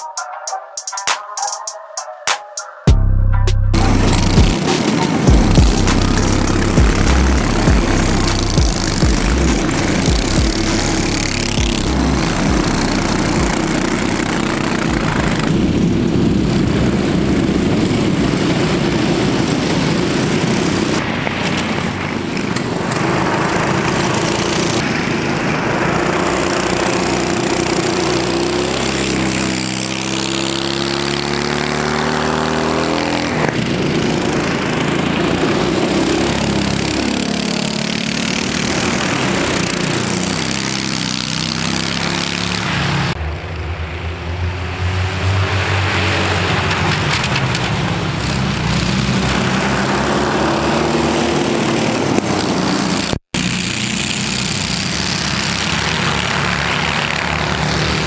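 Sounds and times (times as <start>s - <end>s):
go-kart engine accelerating: 3.7s - 58.0s
go-kart engines racing: 3.7s - 58.0s.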